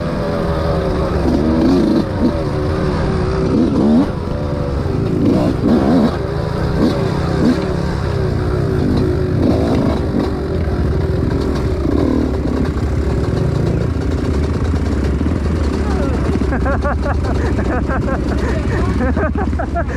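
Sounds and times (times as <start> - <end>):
dirt bike engines revving: 0.0 - 19.9.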